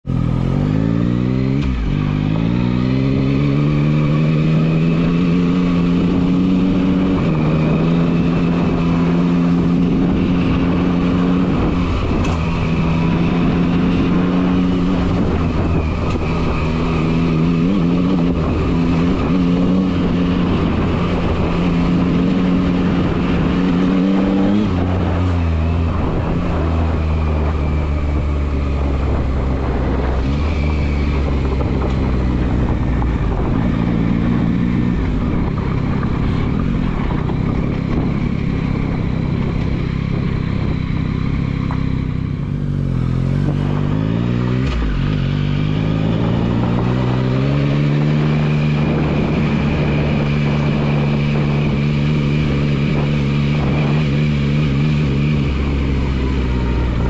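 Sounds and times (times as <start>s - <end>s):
motorcycle engine pulling away: 0.1s - 57.0s.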